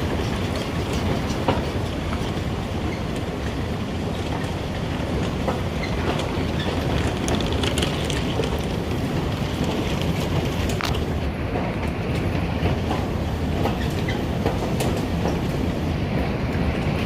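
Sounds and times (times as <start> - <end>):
moving vehicle rumbling: 0.0 - 17.0.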